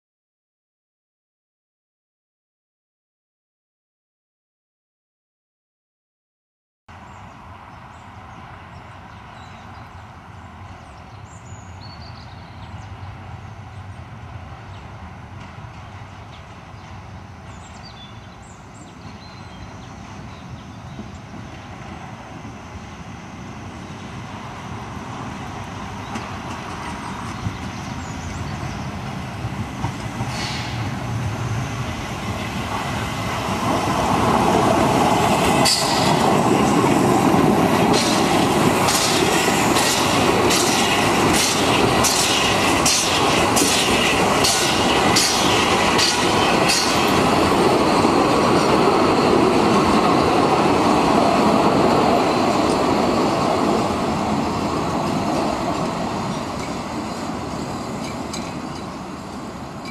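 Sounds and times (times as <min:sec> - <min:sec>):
steam locomotive passing: 0:06.9 - 0:59.9.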